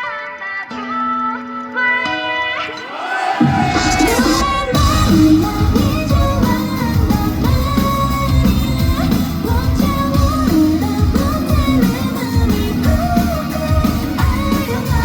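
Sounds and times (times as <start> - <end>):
lead vocals singing: 2.4 - 15.0
pop-rock band playing: 2.6 - 15.0.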